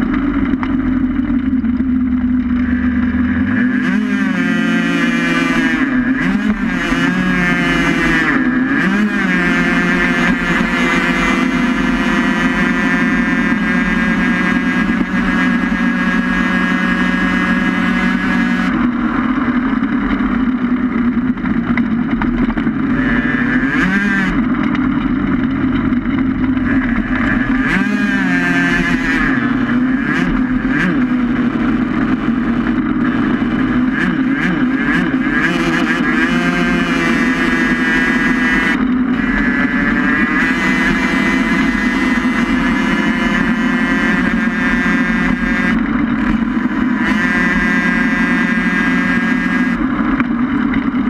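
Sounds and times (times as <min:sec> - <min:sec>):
vehicle wheel drone at speed: 0:00.0 - 0:51.0.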